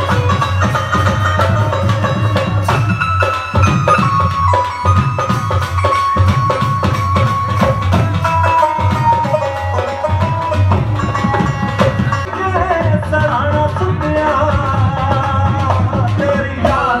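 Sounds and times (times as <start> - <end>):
sustained melody line: 0.0 - 15.1
fast drum beat: 0.0 - 17.0.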